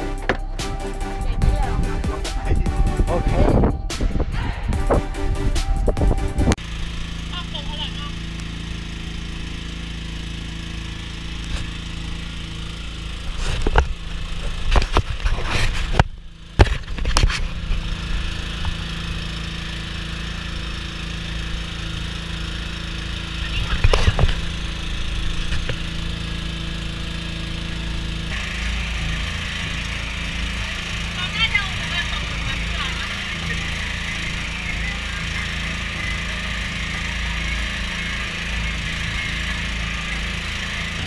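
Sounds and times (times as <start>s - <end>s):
small engine running: 0.0s - 41.0s.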